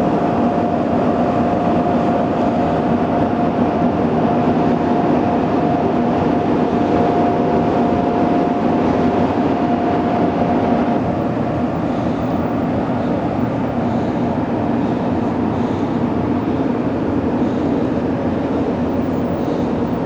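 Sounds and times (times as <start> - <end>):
mid-pitched whine: 0.0 - 20.0
ship machinery droning: 0.0 - 20.0.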